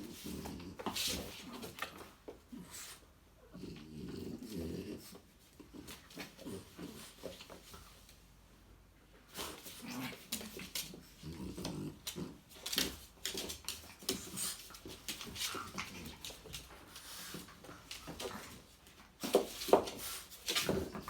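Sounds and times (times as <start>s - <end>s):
dogs scuffling: 0.0s - 3.0s, 5.1s - 8.2s, 9.3s - 21.0s.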